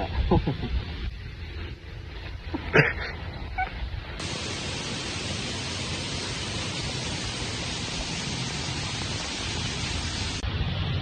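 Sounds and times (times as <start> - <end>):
low wind rumble: 0.0 - 11.0
steady hiss: 0.0 - 11.0.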